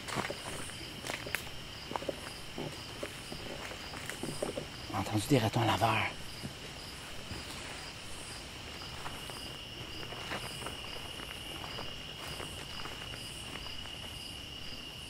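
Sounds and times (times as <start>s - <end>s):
footsteps on forest floor: 0.0s - 14.8s
cricket trill: 0.0s - 15.0s
pulsing insect call: 0.0s - 15.0s.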